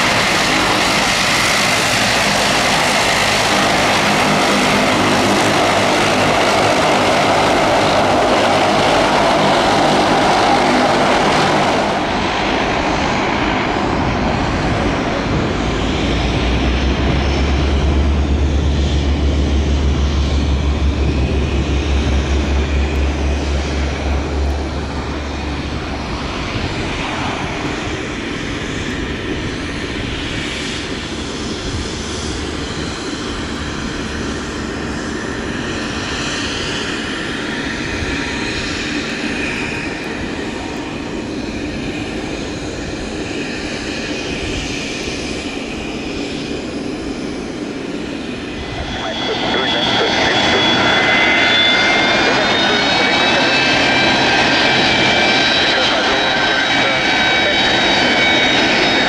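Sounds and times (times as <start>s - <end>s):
turboprop plane taking off: 0.0s - 59.0s.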